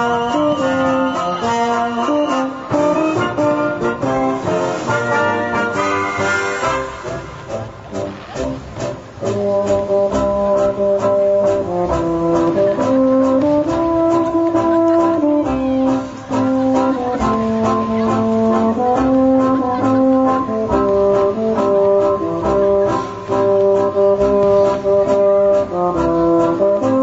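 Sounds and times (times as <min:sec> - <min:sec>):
brass music slow chords: 0:00.0 - 0:27.0.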